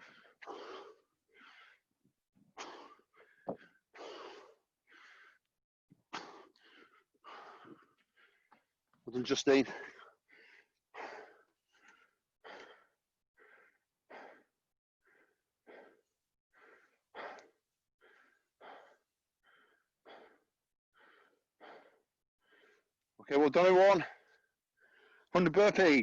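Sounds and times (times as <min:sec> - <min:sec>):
person breathing hard: 0:00.0 - 0:08.8, 0:09.7 - 0:23.0, 0:24.1 - 0:25.3.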